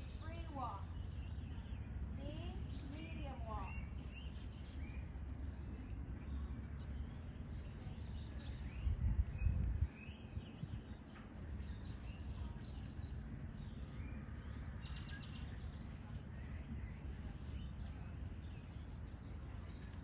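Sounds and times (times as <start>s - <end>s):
small birds chirping: 0.0s - 20.0s
wind rumble on microphone: 0.0s - 20.0s.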